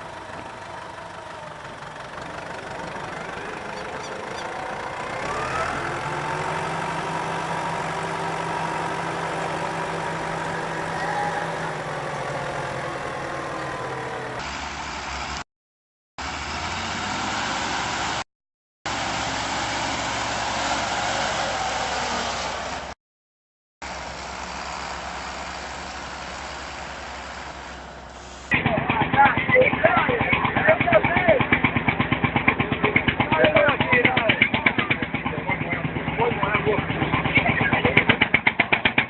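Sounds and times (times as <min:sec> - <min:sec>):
heavy vehicle engines revving: 0:00.0 - 0:15.5, 0:16.2 - 0:18.2, 0:18.9 - 0:23.0, 0:23.8 - 0:39.0.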